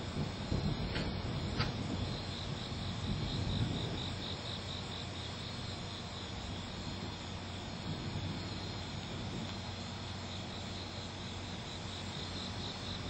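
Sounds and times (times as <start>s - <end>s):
insect chirping: 0.0s - 13.0s
low background rumble: 0.0s - 13.0s.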